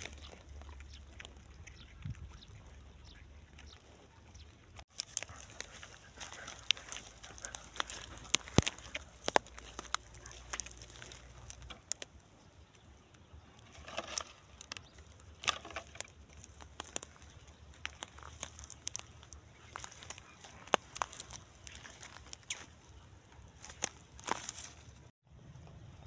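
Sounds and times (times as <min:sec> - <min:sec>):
twigs and leaves crackling: 0:00.0 - 0:25.8.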